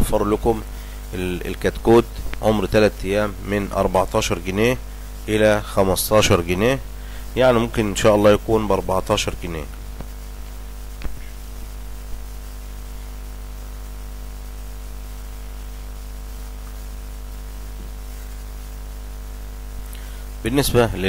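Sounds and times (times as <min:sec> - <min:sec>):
electrical mains hum: 0:00.0 - 0:21.0
faint hiss: 0:00.0 - 0:21.0.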